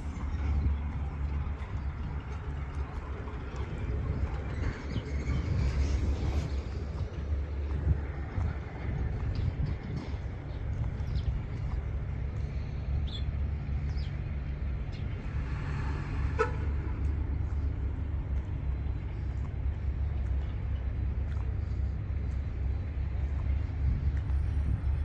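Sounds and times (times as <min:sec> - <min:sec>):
combine harvester engine rumbling: 0:00.0 - 0:25.0.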